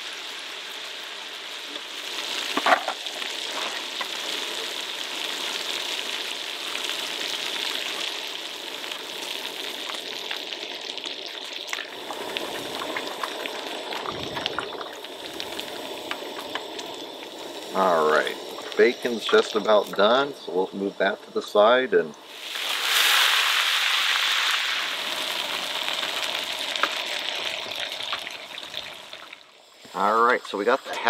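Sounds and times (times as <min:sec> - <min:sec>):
bacon sizzling on griddle: 0:00.0 - 0:31.0.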